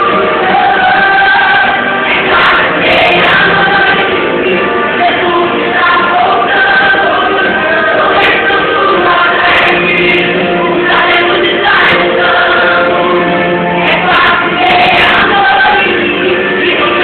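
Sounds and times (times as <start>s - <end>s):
gospel song with choir singing: 0.0s - 17.0s.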